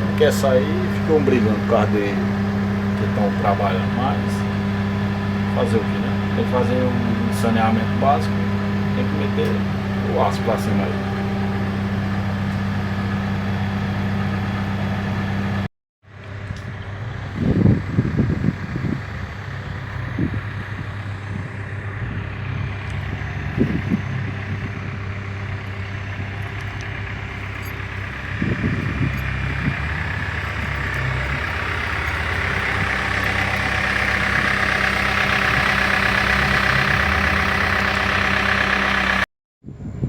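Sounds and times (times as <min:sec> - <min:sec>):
backhoe diesel engine running: 0:00.0 - 0:39.3.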